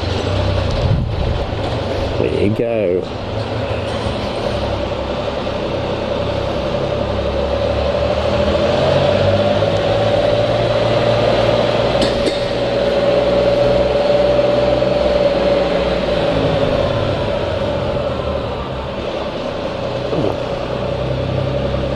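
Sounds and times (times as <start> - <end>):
low engine hum: 0.0 - 21.9.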